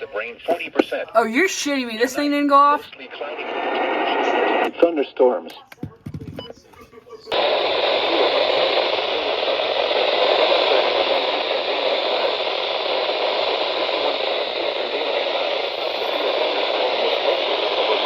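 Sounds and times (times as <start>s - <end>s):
radio static hiss: 0.0s - 5.7s, 7.0s - 18.0s.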